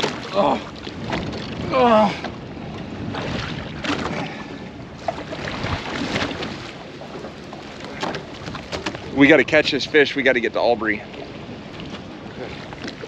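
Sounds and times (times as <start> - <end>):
water splashing against boat: 0.0 - 13.0
wind buffeting microphone: 0.0 - 13.0.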